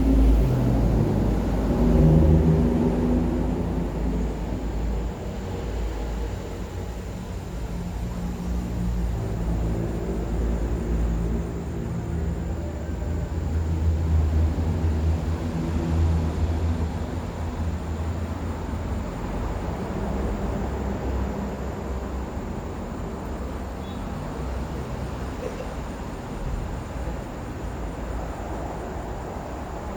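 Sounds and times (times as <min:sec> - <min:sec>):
passing vehicles engine rumble: 0:00.0 - 0:29.9.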